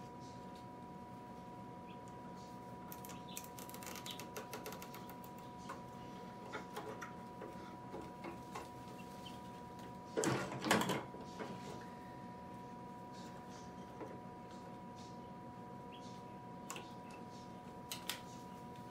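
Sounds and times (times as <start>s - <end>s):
faint high hum: 0.0s - 18.9s.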